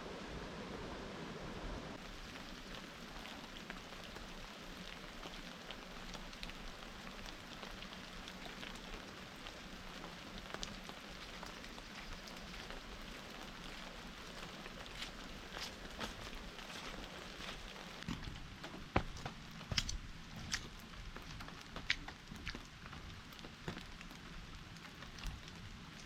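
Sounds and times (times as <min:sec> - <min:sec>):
rain falling steadily: 0:00.0 - 0:26.0.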